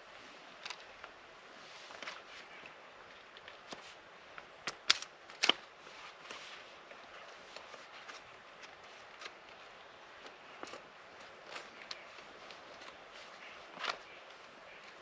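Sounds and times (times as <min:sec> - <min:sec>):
faint rustle: 0:00.0 - 0:04.5, 0:05.4 - 0:15.0.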